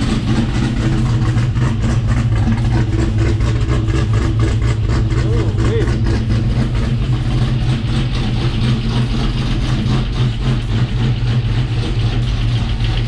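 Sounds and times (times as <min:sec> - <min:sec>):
car engine lopey idle: 0:00.0 - 0:13.0.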